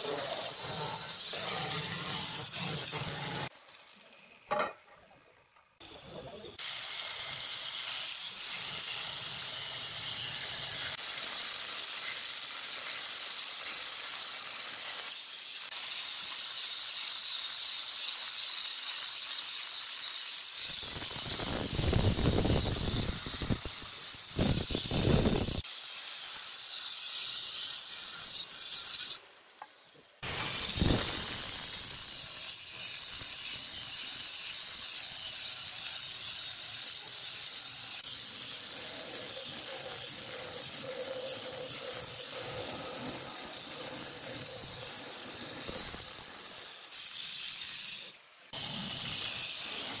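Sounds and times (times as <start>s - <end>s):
stone cutter grinding wet stone: 0.0s - 3.5s, 6.6s - 50.0s.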